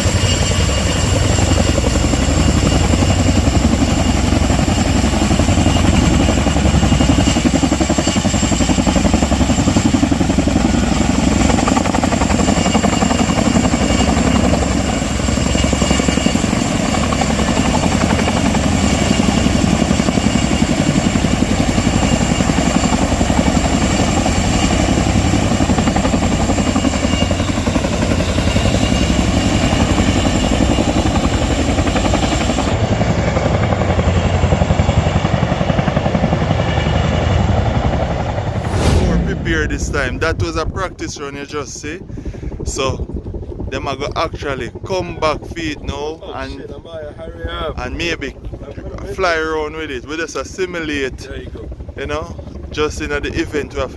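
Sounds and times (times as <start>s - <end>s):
helicopter rotor chopping: 0.0s - 53.9s.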